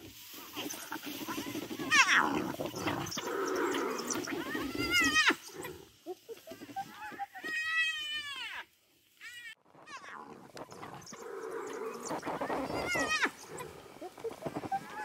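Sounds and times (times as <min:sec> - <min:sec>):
wild dogs and hyenas calling: 0:00.2 - 0:07.5, 0:09.7 - 0:15.0.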